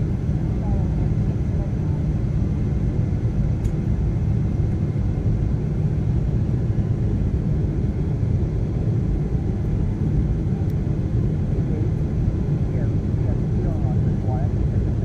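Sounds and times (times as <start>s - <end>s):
airliner rumble during landing: 0.0s - 15.0s.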